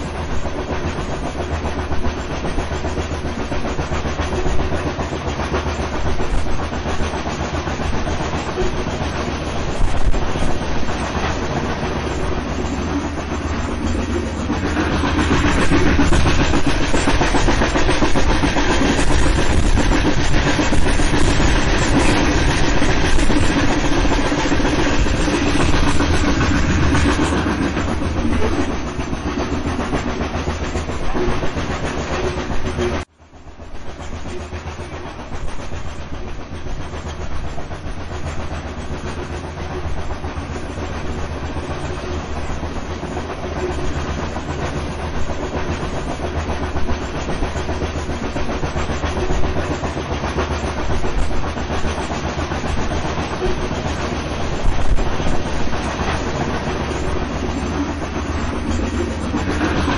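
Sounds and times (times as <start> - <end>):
steam train running: 0.0 - 59.9.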